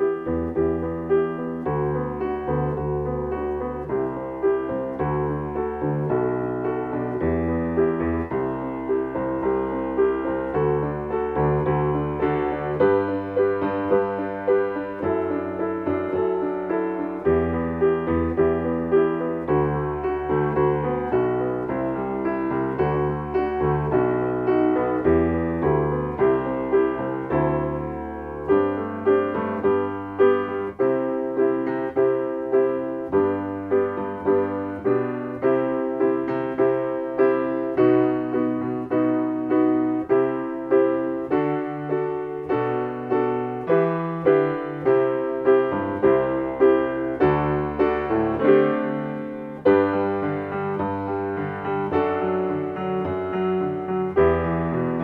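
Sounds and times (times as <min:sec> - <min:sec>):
solo piano chords: 0:00.0 - 0:55.0.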